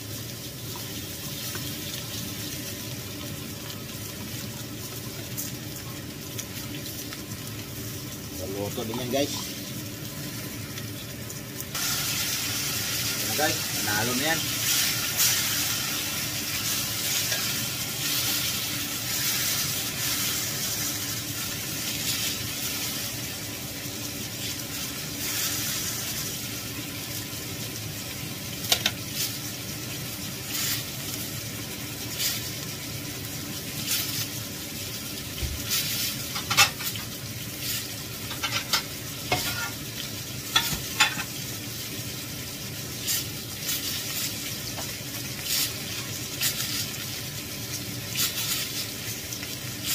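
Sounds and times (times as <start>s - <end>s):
meat sizzling in a skillet: 0.0s - 49.9s.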